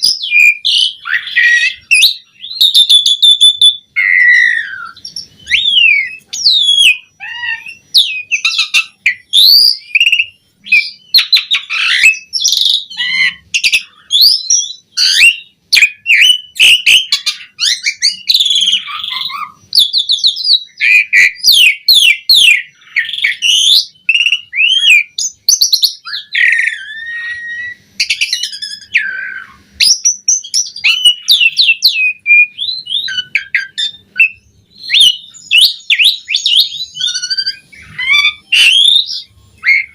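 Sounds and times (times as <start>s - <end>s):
starling singing varied song: 0.0s - 39.9s.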